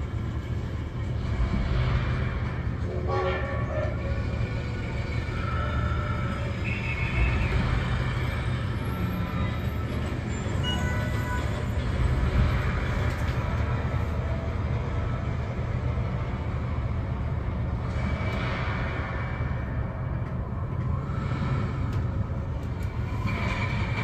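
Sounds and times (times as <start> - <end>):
elevator rumbling and rushing: 0.0 - 24.0.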